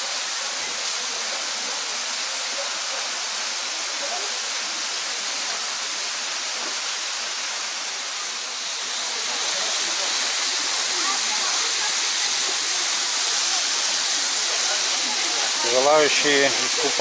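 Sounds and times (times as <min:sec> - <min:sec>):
waterfall water rushing: 0:00.0 - 0:17.0.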